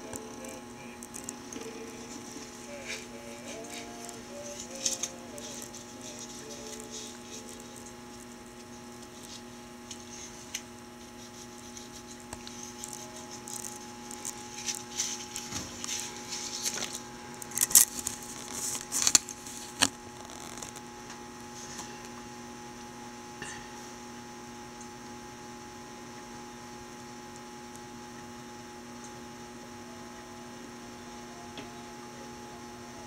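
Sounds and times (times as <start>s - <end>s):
electrical mains hum: 0.0s - 33.0s.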